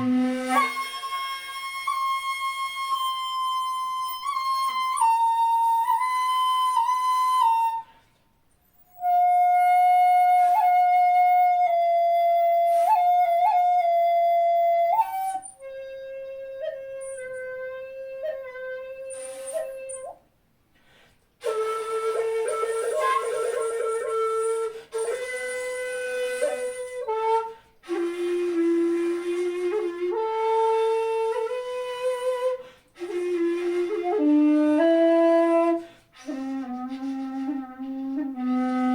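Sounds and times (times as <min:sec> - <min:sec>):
bamboo flute long notes: 0:00.0 - 0:08.0, 0:08.8 - 0:20.2, 0:21.4 - 0:38.9.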